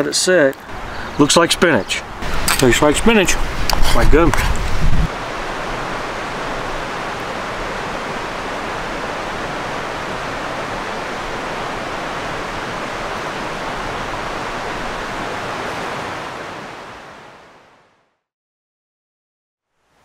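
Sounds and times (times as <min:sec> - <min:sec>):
river rushing: 0:00.2 - 0:17.7.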